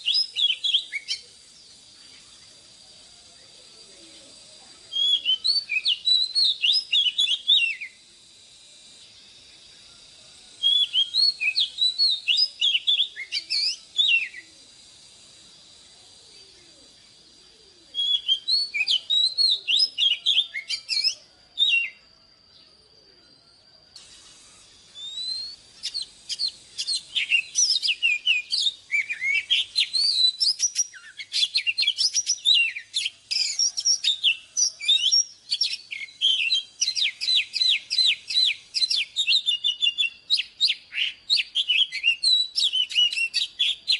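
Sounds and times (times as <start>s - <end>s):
faint steady high tone: 0.0s - 39.1s
bird singing whistled notes: 0.0s - 43.9s.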